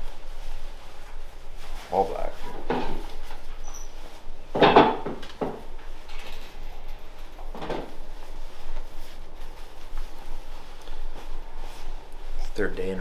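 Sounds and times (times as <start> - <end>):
clothing rustling: 0.0 - 13.0.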